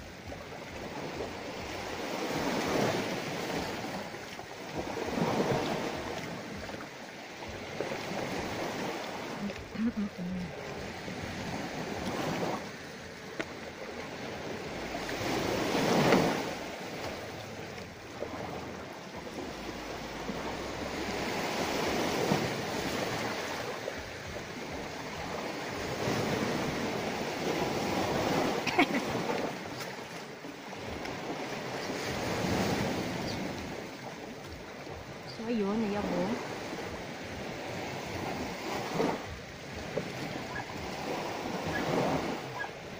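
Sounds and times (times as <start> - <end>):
sea surf washing ashore: 0.0 - 42.9.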